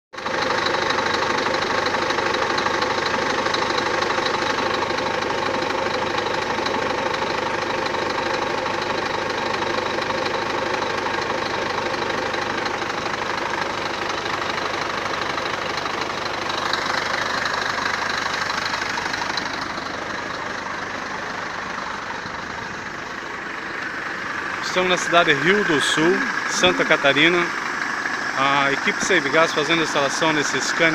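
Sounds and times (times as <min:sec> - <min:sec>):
truck diesel engine idling: 0:00.2 - 0:30.9.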